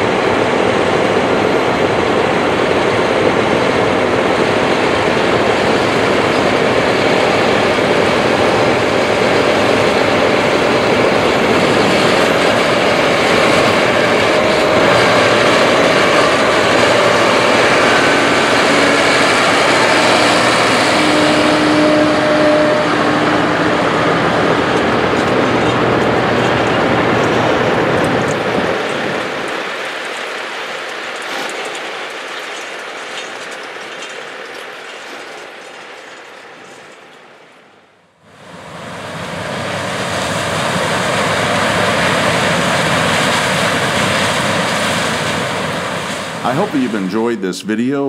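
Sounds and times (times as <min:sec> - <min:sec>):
harvesting machinery running: 0:03.2 - 0:37.5, 0:38.5 - 0:47.5.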